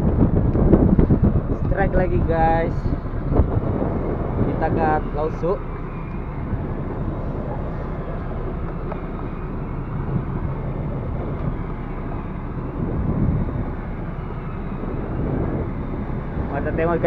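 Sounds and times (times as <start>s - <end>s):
fishing boat noise: 0.0s - 17.0s
wind buffeting microphone: 0.0s - 17.0s.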